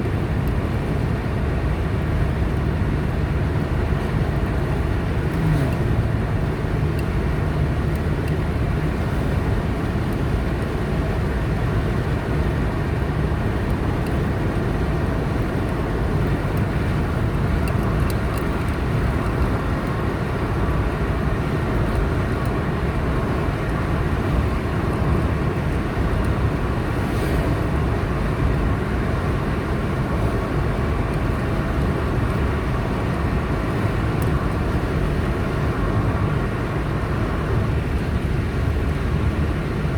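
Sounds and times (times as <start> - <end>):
car engine hum: 0.0 - 39.9
tyres rumbling on road: 0.0 - 39.9.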